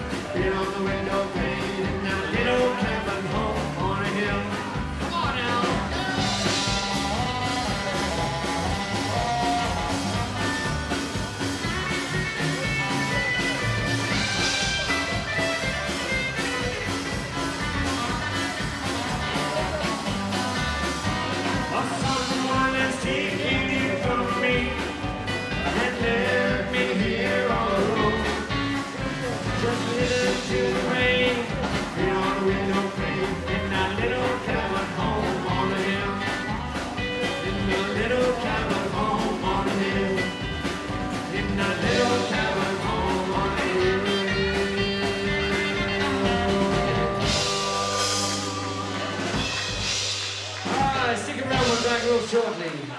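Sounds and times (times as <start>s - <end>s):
upright double bass: 0.0s - 52.3s
acoustic guitar: 0.0s - 52.9s
drum kit: 0.0s - 52.9s
rockabilly band playing: 0.0s - 52.9s.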